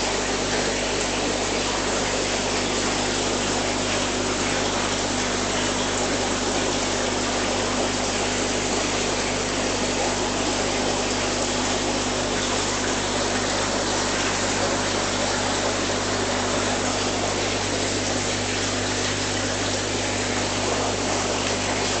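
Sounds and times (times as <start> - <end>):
aquarium pump humming: 0.0 - 22.0
water rushing: 0.0 - 22.0.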